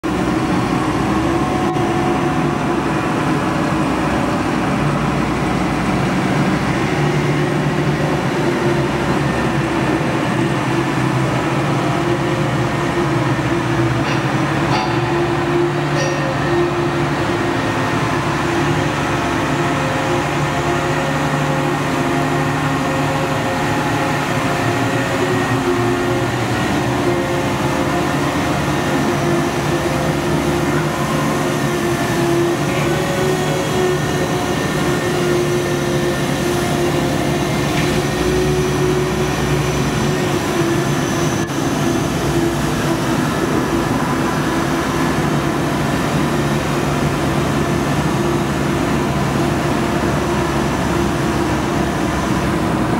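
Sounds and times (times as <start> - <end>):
truck engine drone: 0.0 - 52.9.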